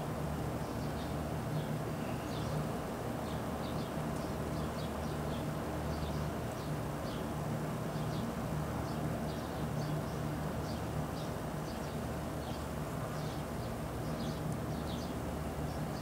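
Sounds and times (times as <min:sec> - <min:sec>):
small birds chirping: 0:00.6 - 0:02.6, 0:03.2 - 0:07.3, 0:07.9 - 0:16.0.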